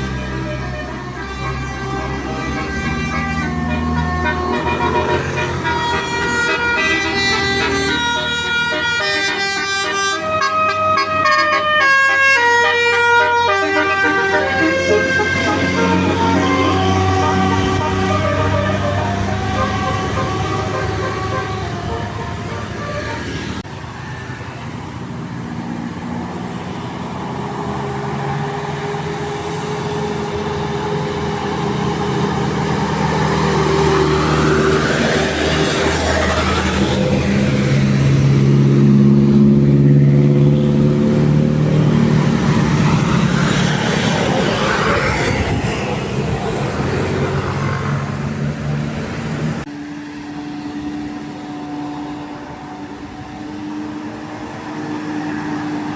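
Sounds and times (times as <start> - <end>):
bus engine passing by: 0.0 - 55.9.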